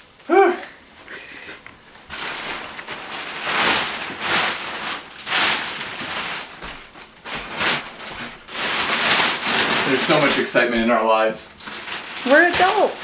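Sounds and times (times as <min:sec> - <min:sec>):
plastic wrapping crinkling: 0:00.9 - 0:13.0.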